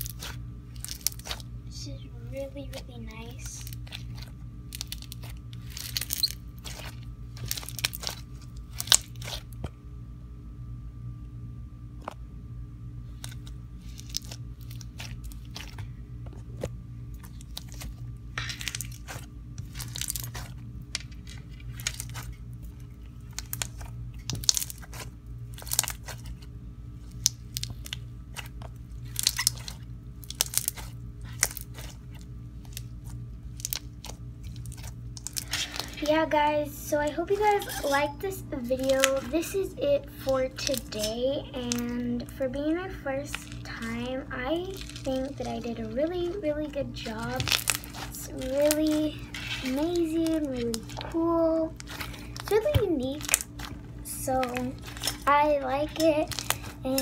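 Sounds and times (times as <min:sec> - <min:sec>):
slime crackling and popping: 0:00.0 - 0:01.5, 0:02.7 - 0:09.6, 0:13.2 - 0:15.9, 0:17.1 - 0:42.2, 0:43.2 - 0:57.0
steady low hum: 0:00.0 - 0:57.0.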